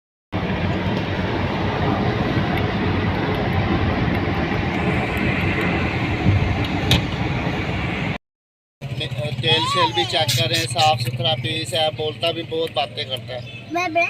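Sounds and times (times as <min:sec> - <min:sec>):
car road and engine noise: 0:00.3 - 0:08.2, 0:08.8 - 0:14.0.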